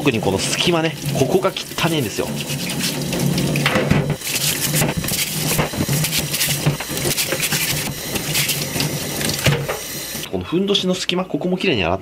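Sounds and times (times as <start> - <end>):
plastic brush scrubbing crab shell: 0.0 - 10.3
running tap water: 0.0 - 10.3.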